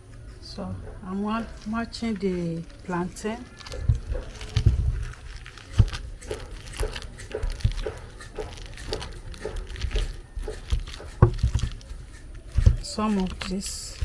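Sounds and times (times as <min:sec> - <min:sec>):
soft thuds of mashing: 0:00.0 - 0:14.0.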